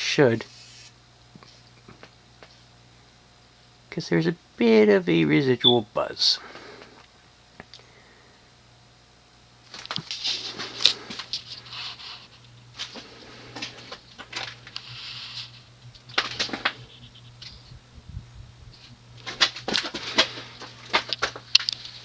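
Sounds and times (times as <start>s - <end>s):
ceiling fan motor buzz: 0.0s - 22.0s.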